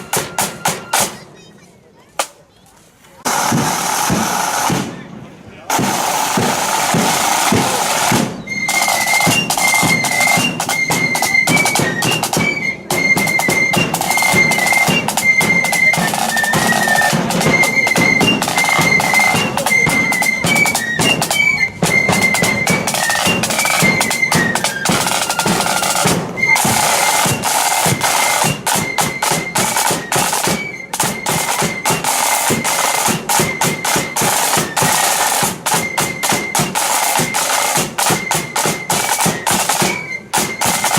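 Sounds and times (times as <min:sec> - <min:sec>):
flutes playing high melody: 0:00.0 - 0:01.2, 0:05.7 - 0:40.9
snare drums: 0:00.0 - 0:01.4, 0:03.2 - 0:40.9.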